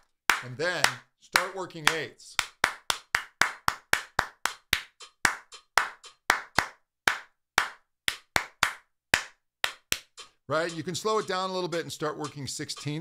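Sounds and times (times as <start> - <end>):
handclaps in steady rhythm: 0.0 - 13.0.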